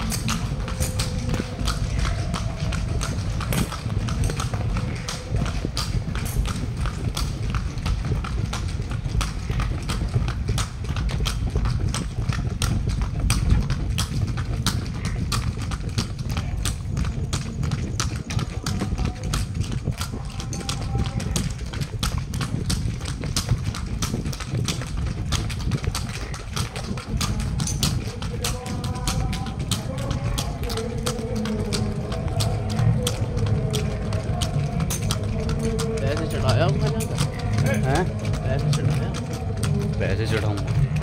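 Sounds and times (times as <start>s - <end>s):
hooves clopping on road: 0.0s - 41.0s.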